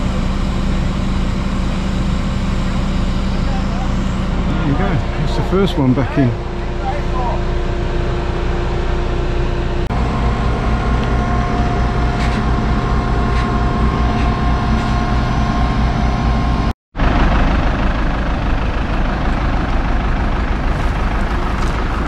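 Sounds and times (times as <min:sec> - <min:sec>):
diesel engine running: 0:00.0 - 0:22.0
high whine: 0:00.0 - 0:22.0.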